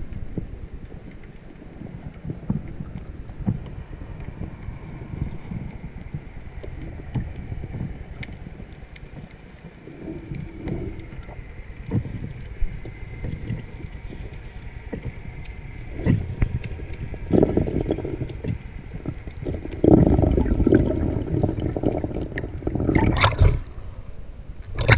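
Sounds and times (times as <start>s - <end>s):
muffled underwater rumbling: 0.0s - 24.9s.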